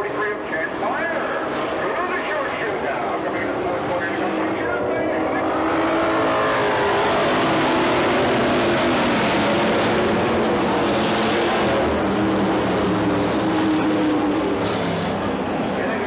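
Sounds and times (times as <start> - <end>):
racing car engines droning: 0.0 - 16.0.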